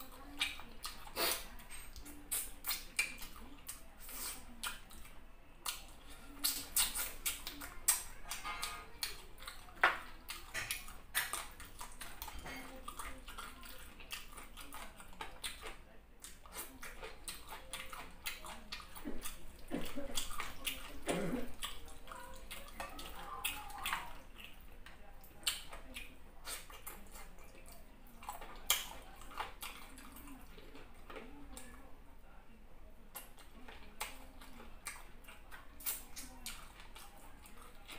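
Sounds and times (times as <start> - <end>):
fingers squelching through food: 0.0 - 31.9, 33.0 - 37.9
wet smacking and chewing: 0.0 - 31.9, 33.1 - 37.9.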